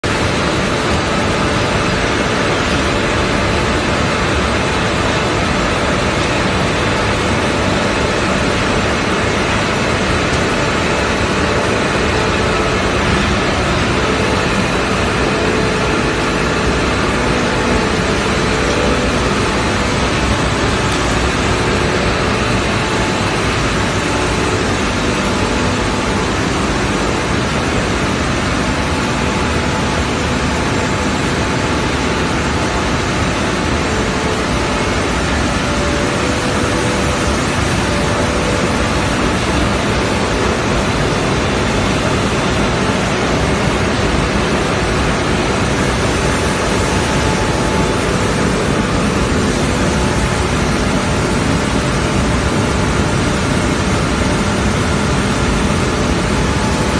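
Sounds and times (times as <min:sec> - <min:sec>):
faint machine hum: 0:00.0 - 0:56.9
loud steady machine noise: 0:00.0 - 0:56.9.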